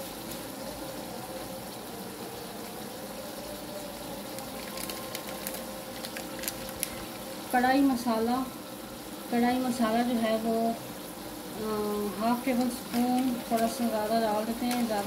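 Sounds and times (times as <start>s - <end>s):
food simmering in pot: 0.0s - 15.0s.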